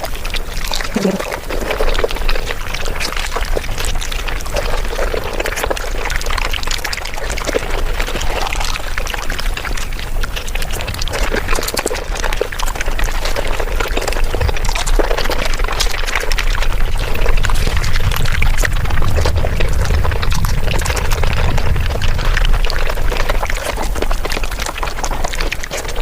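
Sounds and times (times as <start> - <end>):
wet chewing and slurping: 0.0 - 26.0.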